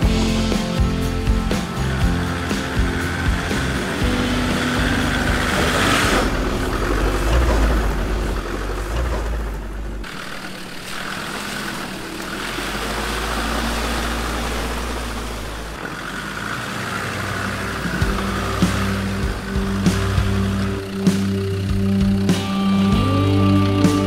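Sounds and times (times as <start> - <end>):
water and mud splashing: 0.0 - 23.4
diesel engine running: 0.0 - 24.0.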